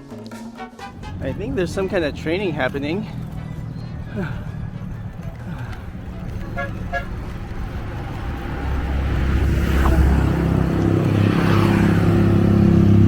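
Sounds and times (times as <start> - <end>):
vehicle engine droning: 0.9 - 13.0.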